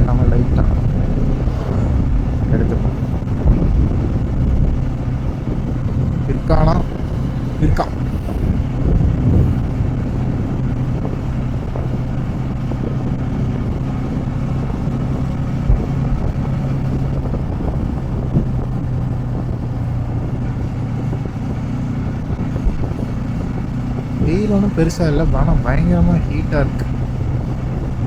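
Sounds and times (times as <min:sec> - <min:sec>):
motorcycle engine cruising: 0:00.0 - 0:28.0
wind noise on microphone: 0:00.0 - 0:28.0.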